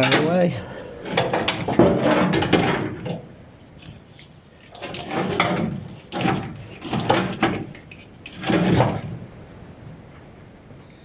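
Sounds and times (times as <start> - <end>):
parts scraping and clattering: 0.0 - 9.2.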